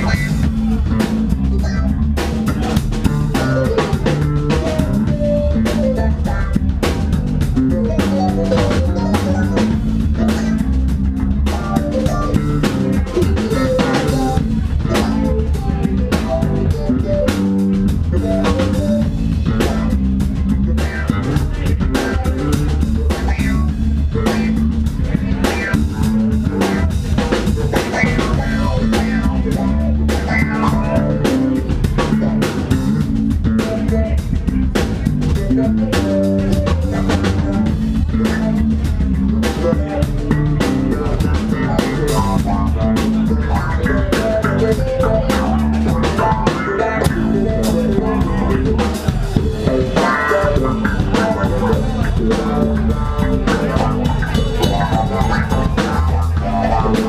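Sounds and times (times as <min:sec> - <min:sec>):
drum kit beat: 0:00.0 - 0:57.0
electric bass: 0:00.0 - 0:57.0.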